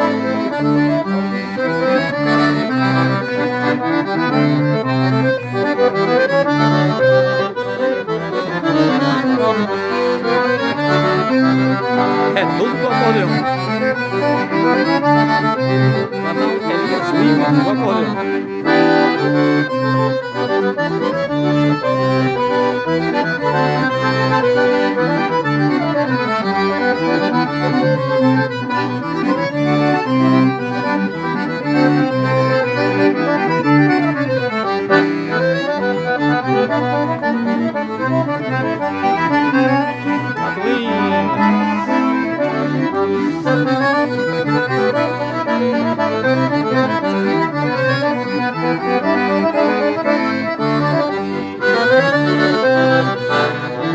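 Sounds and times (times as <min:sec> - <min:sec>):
accordion playing a tune: 0:00.0 - 0:53.9.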